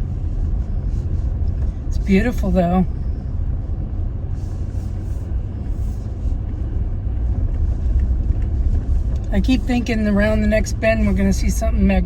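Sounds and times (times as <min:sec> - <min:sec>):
pickup truck engine rumbling: 0:00.0 - 0:12.0.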